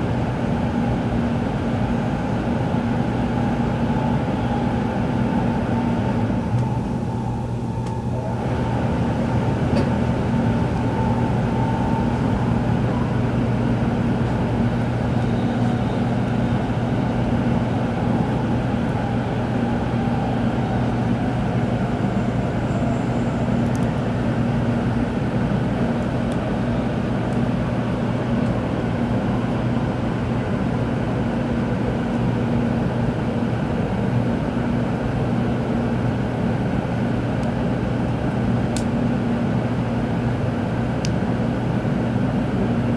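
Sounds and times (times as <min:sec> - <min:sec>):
train interior rumble: 0:00.0 - 0:42.9.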